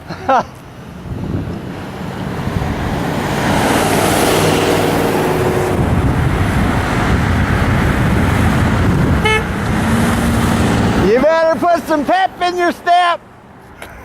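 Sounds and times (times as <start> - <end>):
freeway traffic rushing past: 0.0 - 14.0.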